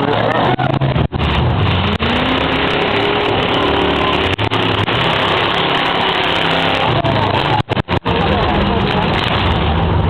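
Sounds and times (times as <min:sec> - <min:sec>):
race car engines revving: 0:00.0 - 0:10.0.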